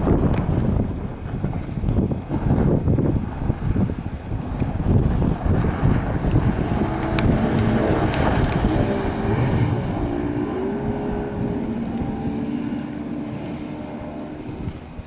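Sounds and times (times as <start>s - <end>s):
outboard motor running at full speed: 0.0s - 15.0s.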